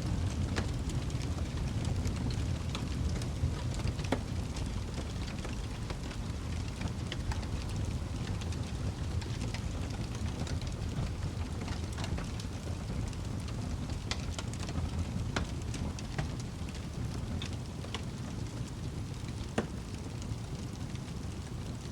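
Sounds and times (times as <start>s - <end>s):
logs crackling and popping: 0.0s - 21.9s
low rumble of flames: 0.0s - 21.9s.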